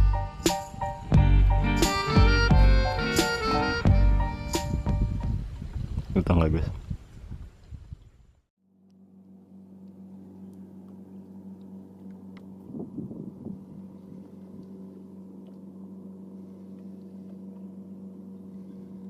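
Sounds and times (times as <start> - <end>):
boat engine humming: 0.0 - 5.3, 8.8 - 19.0.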